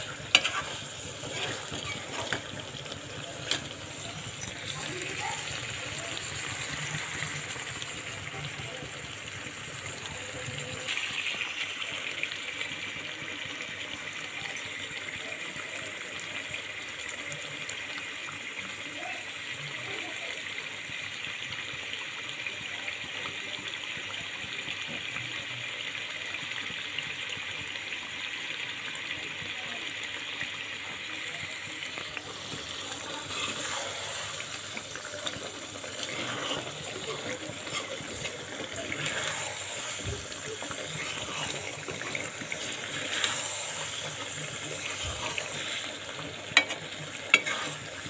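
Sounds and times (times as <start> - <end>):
curry simmering and bubbling: 0.0 - 48.0.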